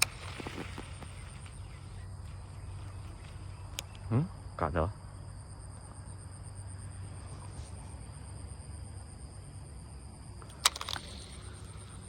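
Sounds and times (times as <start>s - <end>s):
insects trilling: 0.0s - 12.0s
low steady background hum: 0.0s - 12.0s.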